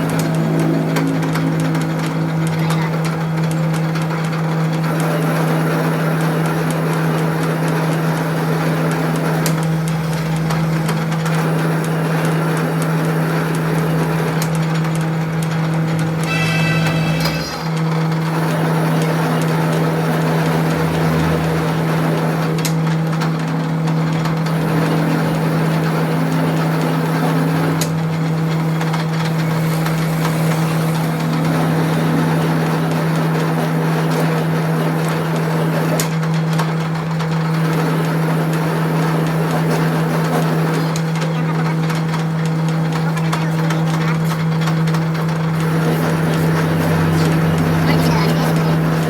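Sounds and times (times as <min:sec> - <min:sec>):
machinery hum: 0:00.0 - 0:49.0
rough even machine noise: 0:00.0 - 0:49.0.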